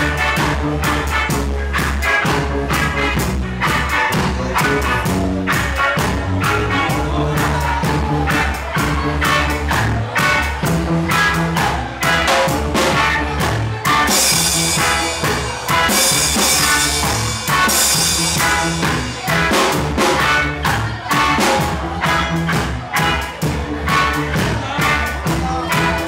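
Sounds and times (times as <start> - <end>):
drum kit beat: 0.0 - 26.0
electric guitars: 0.0 - 26.0
keyboards: 0.0 - 26.0.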